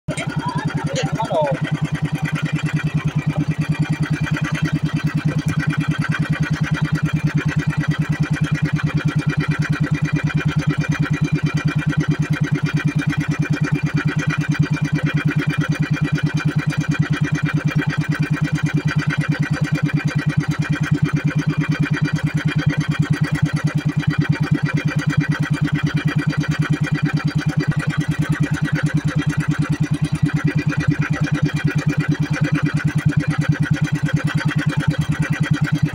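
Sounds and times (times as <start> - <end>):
boat engine chugging: 0.1 - 35.9.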